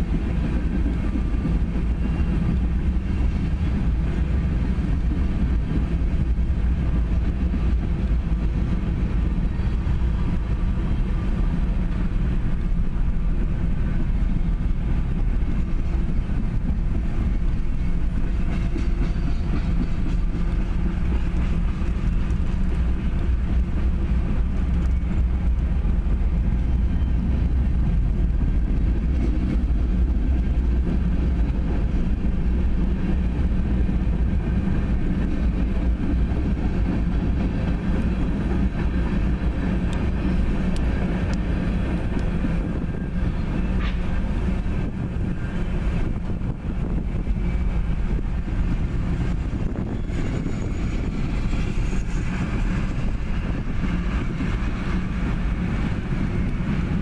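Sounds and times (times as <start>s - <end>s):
steel wheels rumbling on rails: 0.0s - 57.0s.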